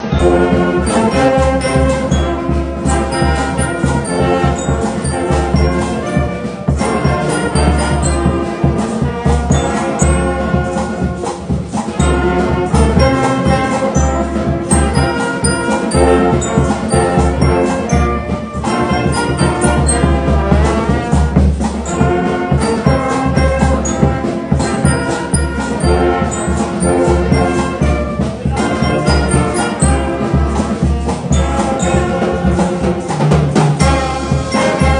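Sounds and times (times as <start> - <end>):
brass band music: 0.0 - 34.9.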